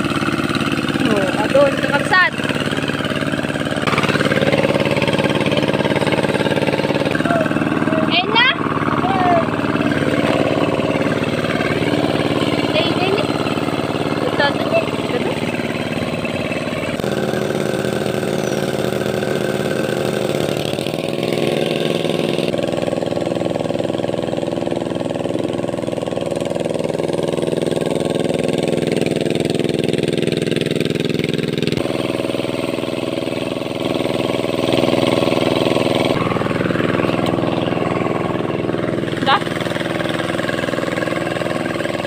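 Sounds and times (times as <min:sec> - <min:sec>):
hand tractor engine running: 0:00.0 - 0:42.0.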